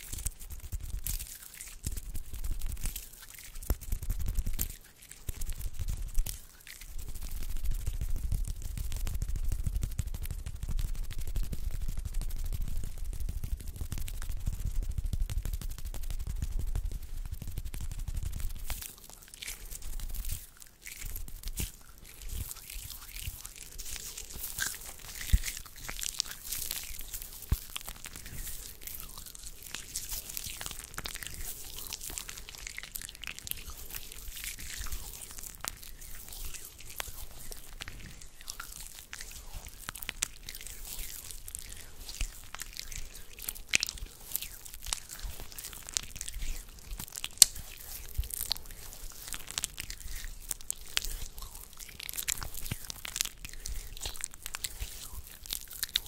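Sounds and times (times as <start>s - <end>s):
sharp clicks and snaps: 0.0s - 56.0s
skin rustling against skin: 0.0s - 56.0s.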